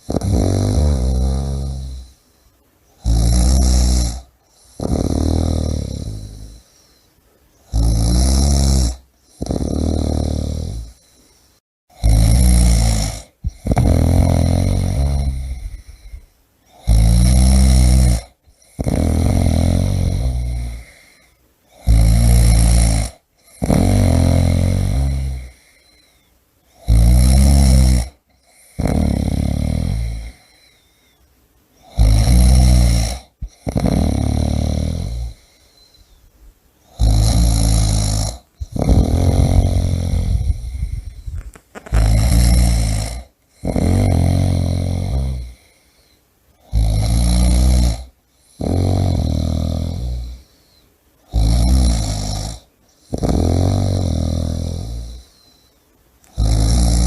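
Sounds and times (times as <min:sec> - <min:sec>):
person snoring: 0:00.0 - 0:02.2, 0:03.0 - 0:07.0, 0:07.7 - 0:11.3, 0:11.9 - 0:30.9, 0:31.8 - 0:36.2, 0:36.9 - 0:57.0.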